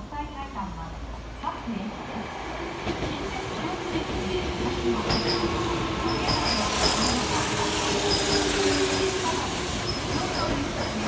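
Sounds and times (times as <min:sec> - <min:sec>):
train wheels on rails: 0:02.0 - 0:11.0.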